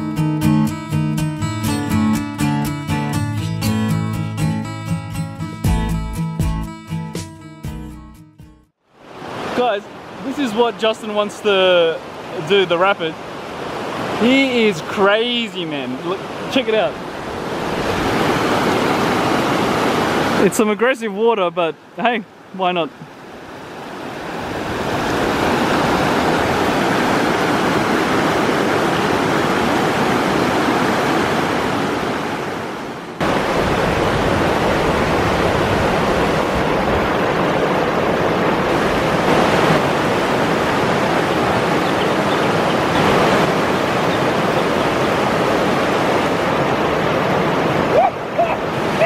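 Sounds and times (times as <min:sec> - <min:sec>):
white water rushing: 0:08.9 - 0:49.0.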